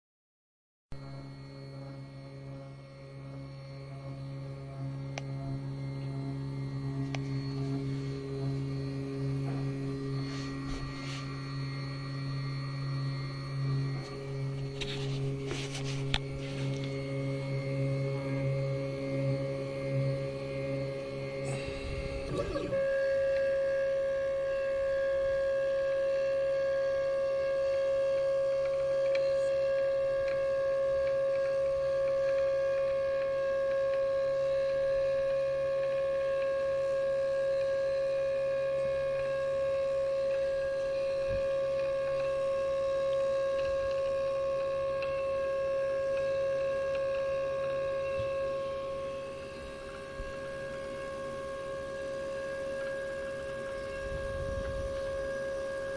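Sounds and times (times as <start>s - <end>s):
machine drive whining: 1.0s - 55.9s.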